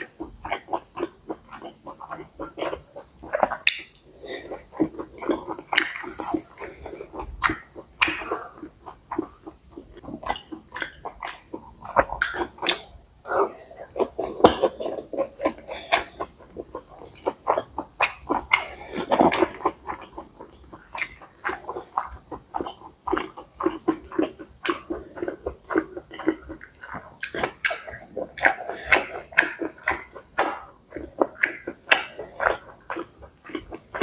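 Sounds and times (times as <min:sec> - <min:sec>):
wet chewing with clicks: 0:00.0 - 0:34.0.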